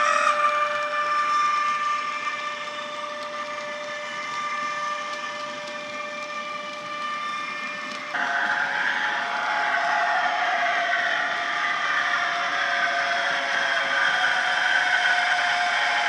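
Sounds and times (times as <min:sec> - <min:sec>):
electric locomotive traction whine: 0:00.0 - 0:16.0
model wagons rolling on track: 0:00.0 - 0:16.0.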